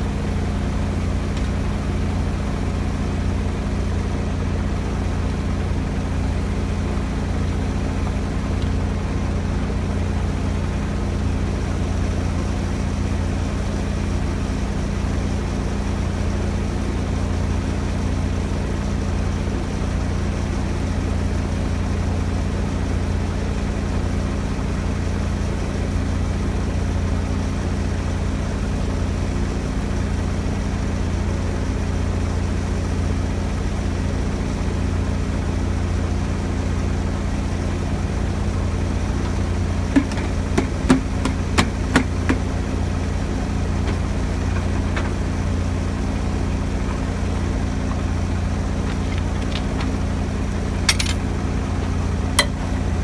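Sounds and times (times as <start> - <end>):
large diesel engine idling: 0.0 - 53.0.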